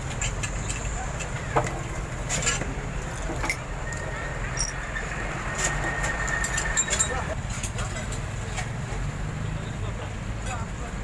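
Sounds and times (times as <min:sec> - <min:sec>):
low rumble of passing vehicles: 0:00.0 - 0:11.0.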